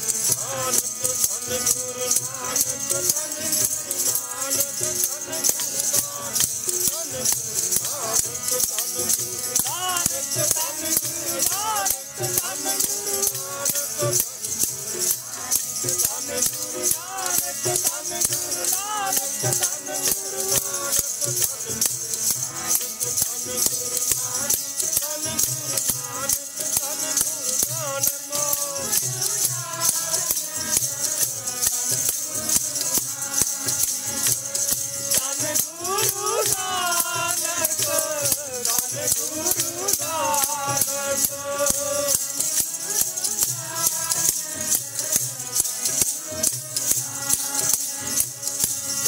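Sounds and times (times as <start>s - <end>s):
person singing: 0.0s - 48.7s
metal percussion jingling: 0.0s - 49.0s.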